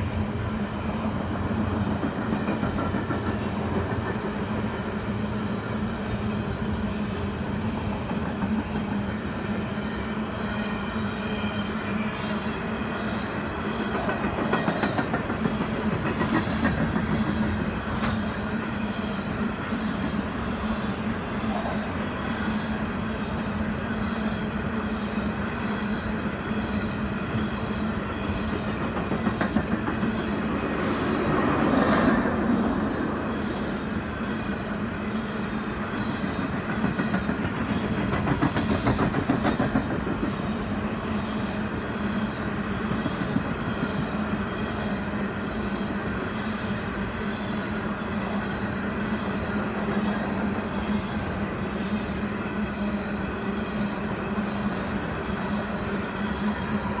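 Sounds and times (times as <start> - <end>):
train wheels clacking on rails: 0.9 - 5.4, 13.1 - 57.0.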